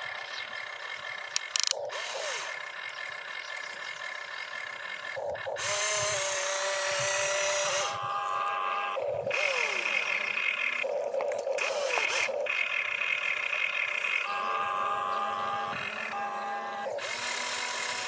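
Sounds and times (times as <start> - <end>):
low motor buzz: 0.0 - 18.0
small electric motors whining: 0.0 - 18.0.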